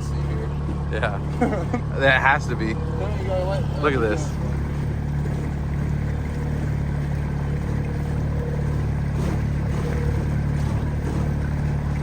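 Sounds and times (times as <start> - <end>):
boat motor running: 0.0 - 12.0
hull hissing through water: 0.0 - 12.0.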